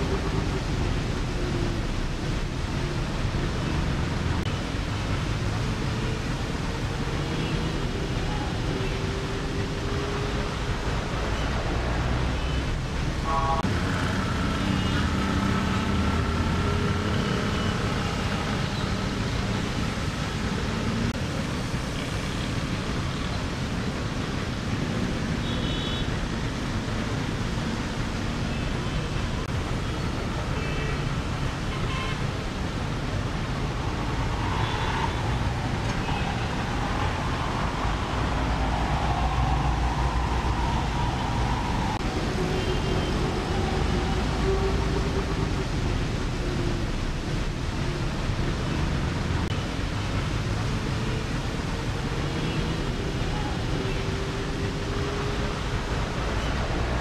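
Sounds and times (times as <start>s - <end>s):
traffic engines: 0.0s - 57.0s
tyres on wet road: 0.0s - 57.0s.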